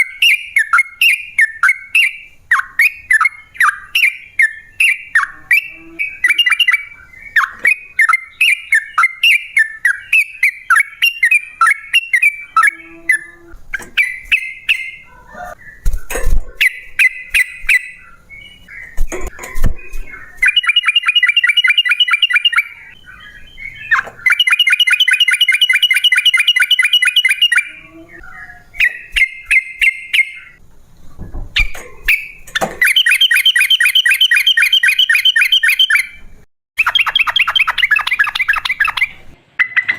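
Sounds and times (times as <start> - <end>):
bulbul chirping and trilling: 0.0 - 30.6, 31.6 - 39.9.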